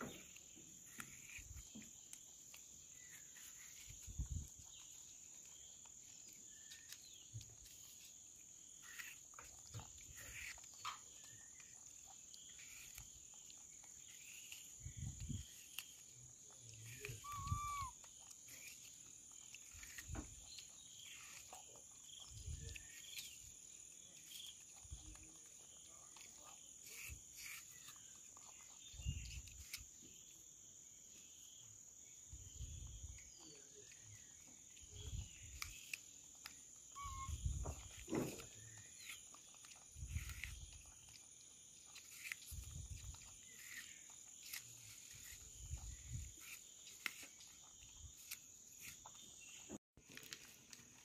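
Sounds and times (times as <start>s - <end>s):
monkey chewing an apple: 0.0s - 51.0s.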